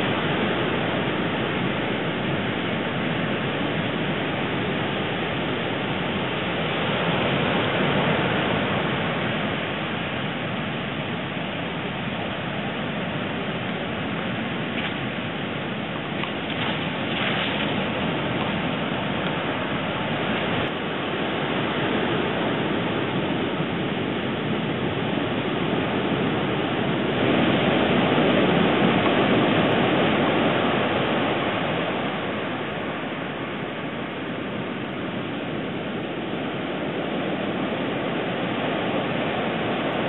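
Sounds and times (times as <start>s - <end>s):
ocean surf washing on shore: 0.0s - 40.0s.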